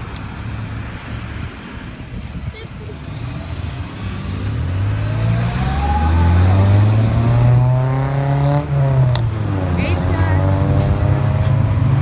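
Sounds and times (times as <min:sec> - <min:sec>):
bus engine accelerating: 0:00.0 - 0:12.0.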